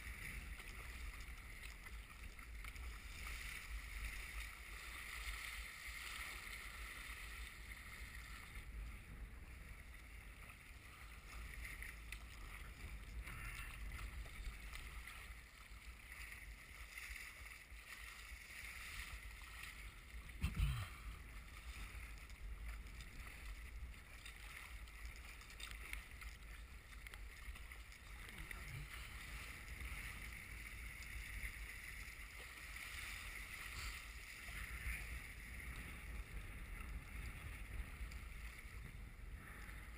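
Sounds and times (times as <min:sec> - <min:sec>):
choppy waves washing: 0:00.0 - 0:39.9.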